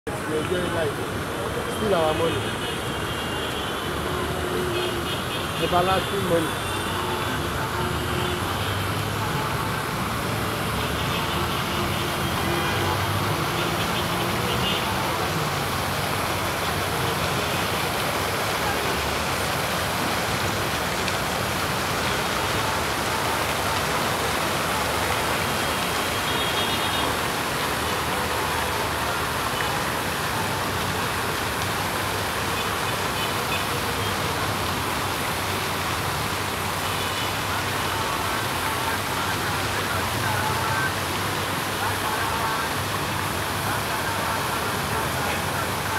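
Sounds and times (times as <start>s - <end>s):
fountain water splashing: 0.1s - 45.9s.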